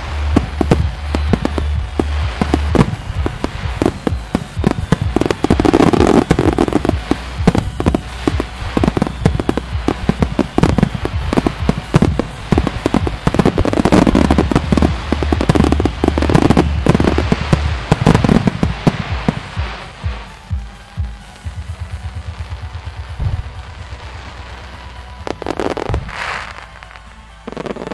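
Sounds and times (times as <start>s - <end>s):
fireworks bursting: 0.0s - 27.9s.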